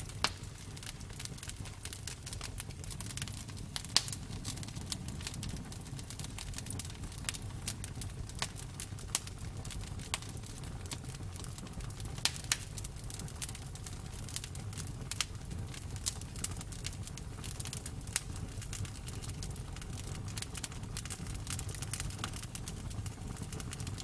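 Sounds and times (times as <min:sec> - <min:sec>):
campfire wood popping and snapping: 0:00.0 - 0:24.0
low rumble of flames: 0:00.0 - 0:24.0.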